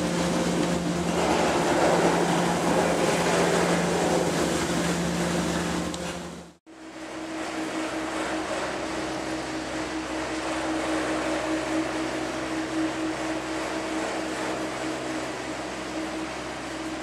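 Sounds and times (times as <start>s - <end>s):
gondola lift mechanical hum: 0.0s - 17.0s.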